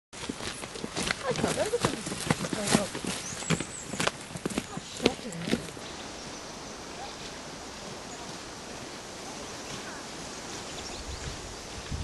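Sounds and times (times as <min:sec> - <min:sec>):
wind hissing in woodland: 0:00.2 - 0:12.0
wind rumbling on microphone: 0:00.8 - 0:12.0.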